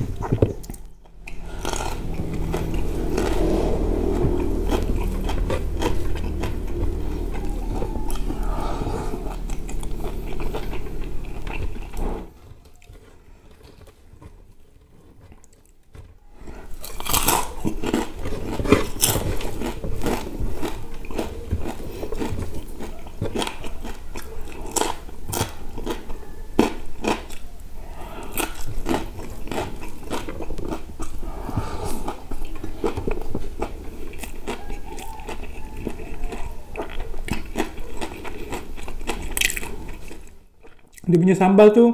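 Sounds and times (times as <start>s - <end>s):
person chewing food: 0.0s - 41.1s.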